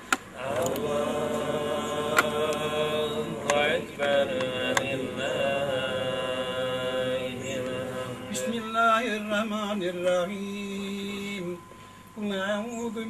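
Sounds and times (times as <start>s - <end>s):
person chanting recitation: 0.3s - 11.6s, 12.2s - 13.0s.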